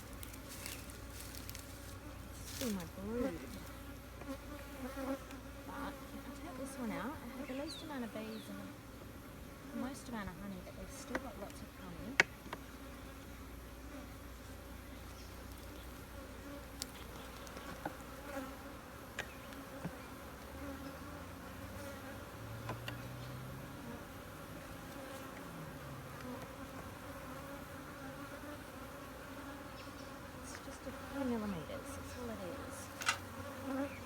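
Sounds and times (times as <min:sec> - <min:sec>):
bee colony buzzing: 0:00.0 - 0:34.0
single bees flying by: 0:00.0 - 0:34.0.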